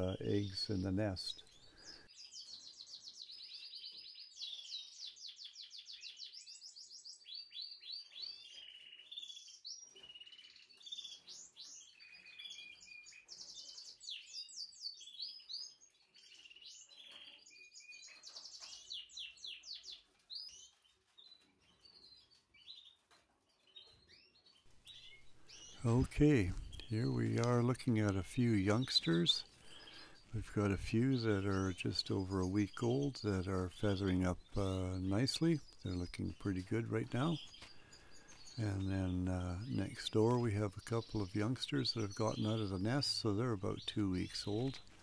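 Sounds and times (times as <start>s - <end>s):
canaries singing and trilling: 0.0s - 45.0s.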